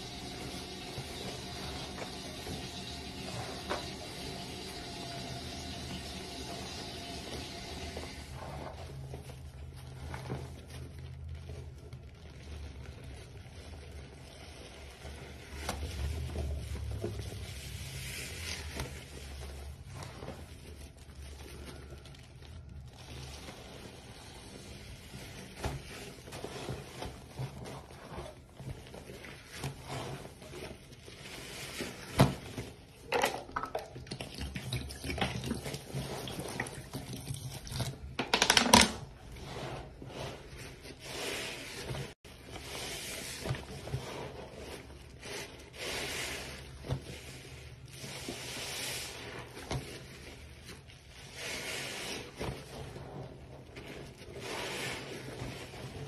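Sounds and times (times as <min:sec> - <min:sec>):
sponge lather squishing: 0:00.0 - 0:56.0.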